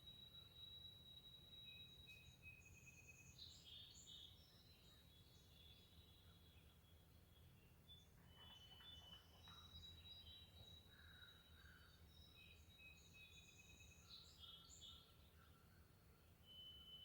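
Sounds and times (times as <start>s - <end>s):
small songbirds singing: 0.0s - 17.0s.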